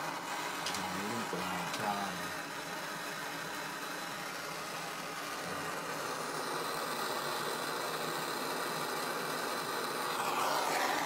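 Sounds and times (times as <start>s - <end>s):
blow torch flame hissing: 0.0s - 11.0s.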